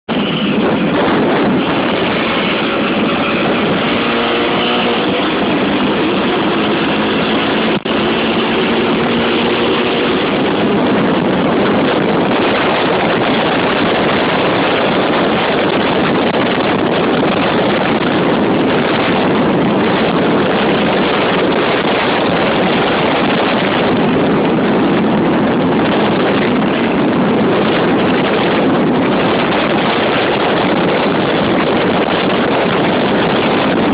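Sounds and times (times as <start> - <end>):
motorcycle engine running: 0.0 - 33.9
wind noise on microphone: 0.0 - 33.9.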